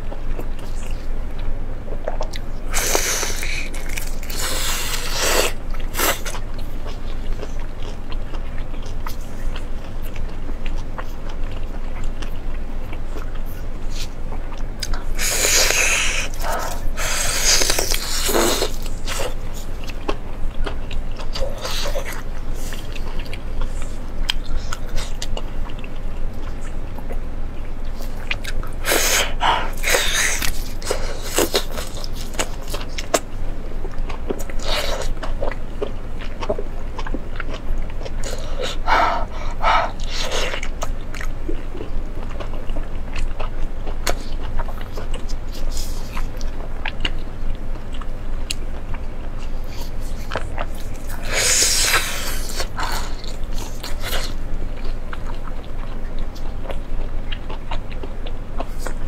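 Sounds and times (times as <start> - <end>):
wet chewing and biting: 0.0 - 59.0.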